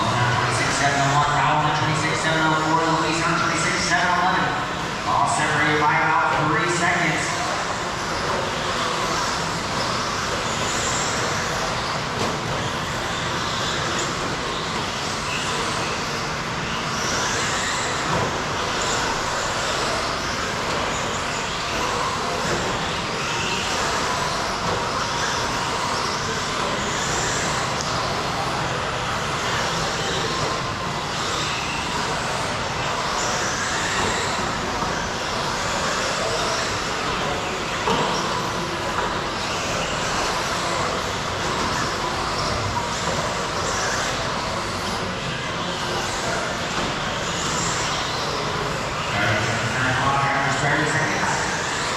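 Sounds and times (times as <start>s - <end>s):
electric motors whining: 0.0s - 51.9s.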